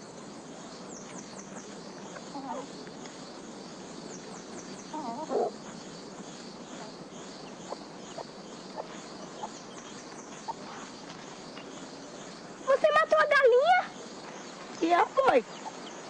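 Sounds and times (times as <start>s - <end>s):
faint high chirping: 0.0s - 16.0s.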